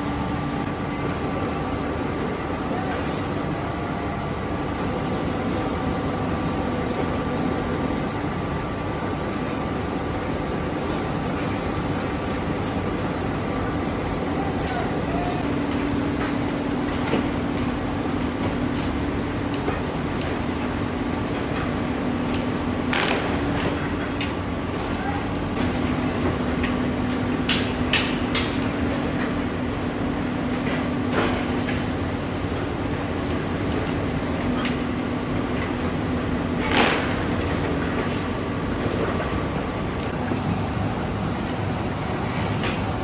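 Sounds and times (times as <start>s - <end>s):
factory machinery din: 0.0s - 43.0s.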